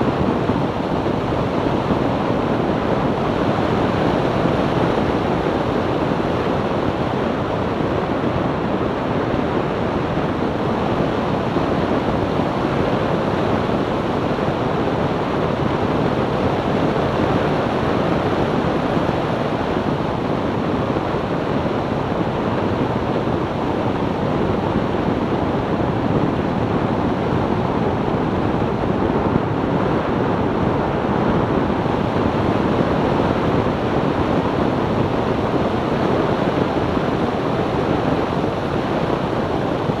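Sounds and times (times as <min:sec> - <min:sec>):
wind rush on microphone: 0:00.0 - 0:40.0.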